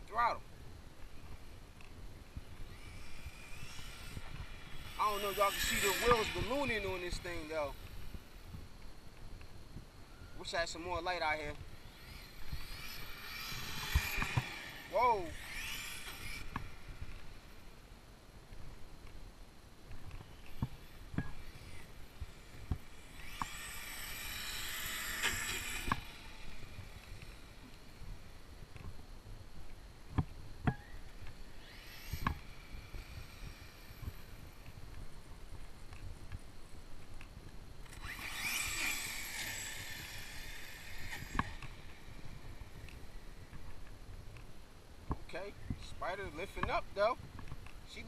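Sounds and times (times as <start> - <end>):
rc truck motor whine: 0.0 - 44.6.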